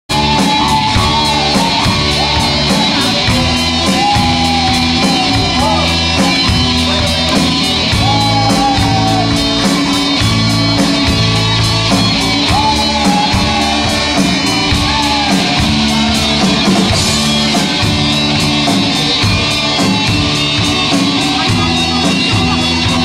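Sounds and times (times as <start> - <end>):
live rock band playing: 0.1 - 23.0.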